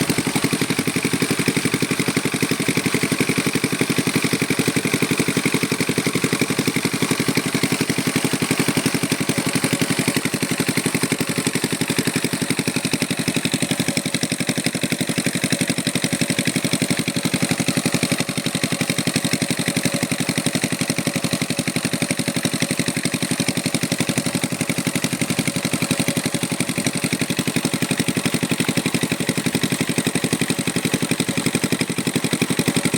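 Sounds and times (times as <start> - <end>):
engine-driven water pump running: 0.0 - 32.9.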